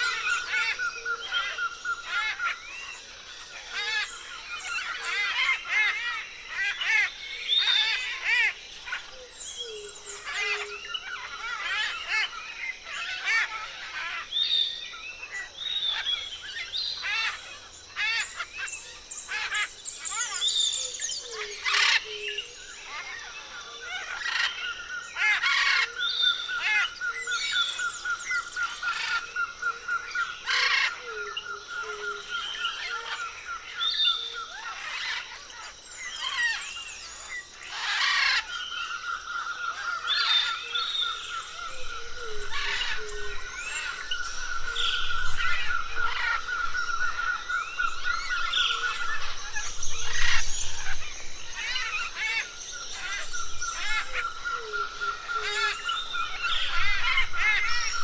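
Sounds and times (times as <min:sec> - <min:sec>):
forest birds calling: 0:00.0 - 0:58.0.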